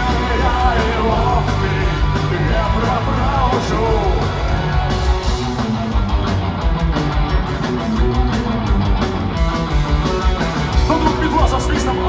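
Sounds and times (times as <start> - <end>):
distorted electric guitar: 0.0 - 12.0
live rock band playing: 0.0 - 12.0.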